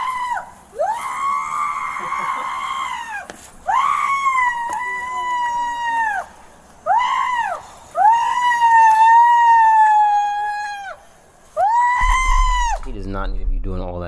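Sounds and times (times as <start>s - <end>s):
woman screaming: 0.0s - 6.3s, 6.9s - 11.0s, 11.6s - 12.8s.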